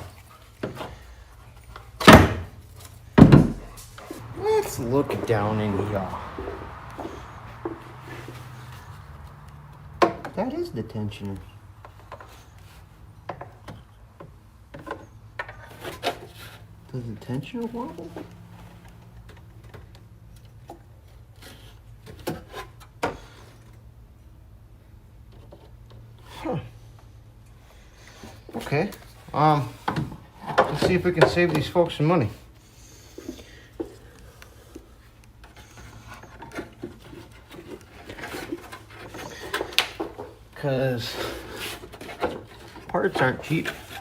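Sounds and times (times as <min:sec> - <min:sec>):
hands tapping and rubbing parts: 0:00.0 - 0:23.9, 0:25.1 - 0:44.0.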